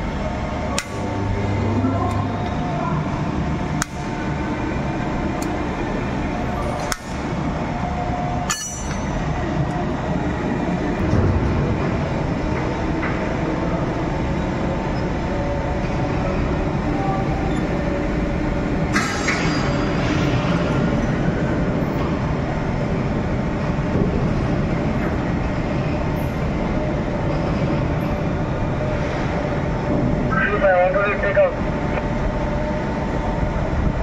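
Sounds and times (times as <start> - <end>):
loud workshop machinery: 0.0 - 34.0.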